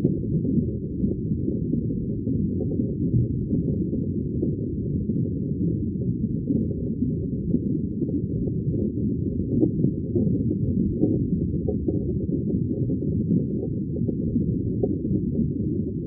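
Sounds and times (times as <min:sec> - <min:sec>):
muffled underwater bubbling rumble: 0:00.0 - 0:16.0.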